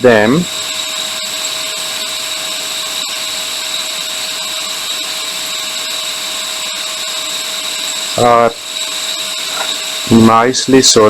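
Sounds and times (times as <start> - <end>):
electric fan whirring: 0.0 - 11.0
faint high whine: 0.0 - 11.0.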